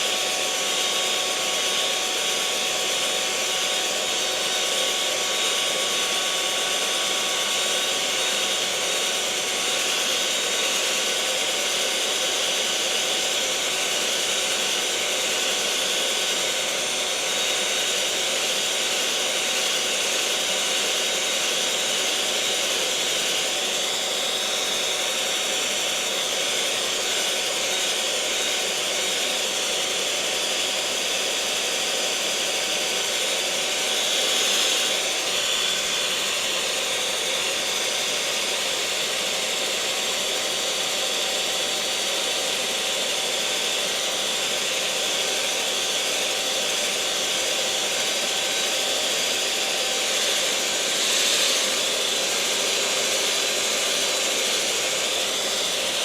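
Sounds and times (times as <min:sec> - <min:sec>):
electric mixer motor whining: 0:00.0 - 0:56.0.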